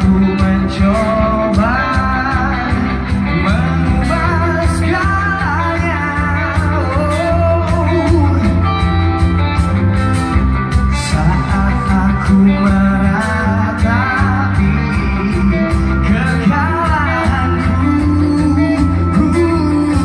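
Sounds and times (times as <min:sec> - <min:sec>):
bass: 0:00.0 - 0:20.0
drums: 0:00.0 - 0:20.0
guitar: 0:00.0 - 0:20.0
live pop-rock band over sound system: 0:00.0 - 0:20.0.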